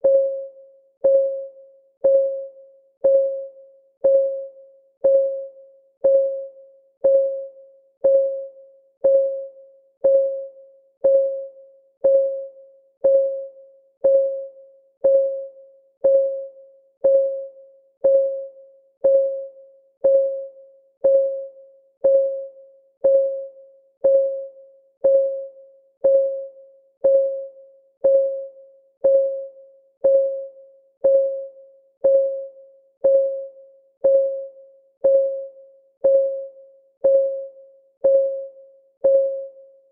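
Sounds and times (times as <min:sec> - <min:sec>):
timer ticking: 0:01.0 - 0:39.6.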